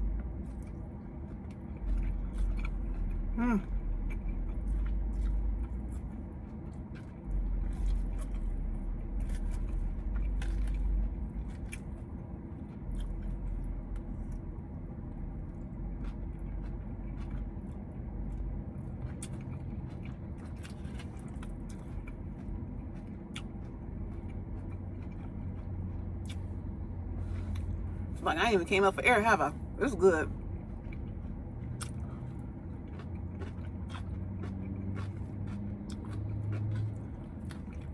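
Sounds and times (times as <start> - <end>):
person chewing crunchy food: 0.0 - 28.2, 30.3 - 37.9
steady low hum: 0.0 - 37.9.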